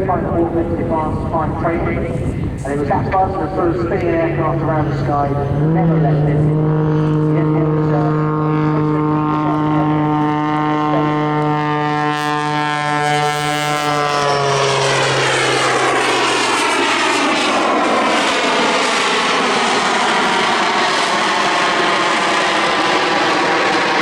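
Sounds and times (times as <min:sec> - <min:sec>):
propeller plane engine drone: 0:00.0 - 0:24.0.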